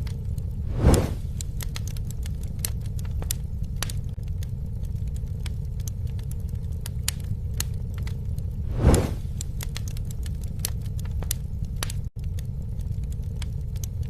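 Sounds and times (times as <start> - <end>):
low rumble of flame: 0.0 - 14.0
wood crackling and popping: 0.0 - 14.0.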